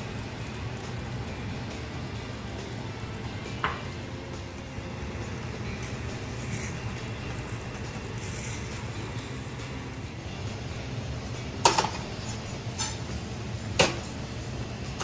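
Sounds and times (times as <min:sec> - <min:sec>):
gas burner low rumble: 0:00.0 - 0:15.0.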